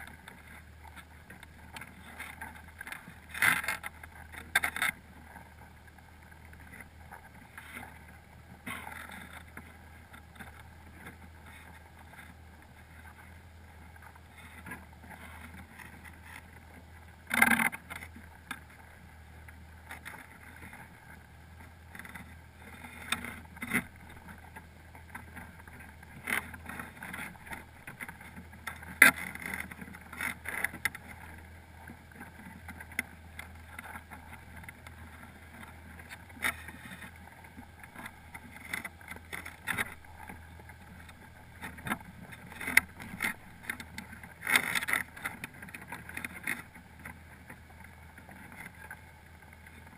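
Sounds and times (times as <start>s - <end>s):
crabs clicking and scraping: 0.0s - 49.9s
steady low hum: 0.0s - 49.9s.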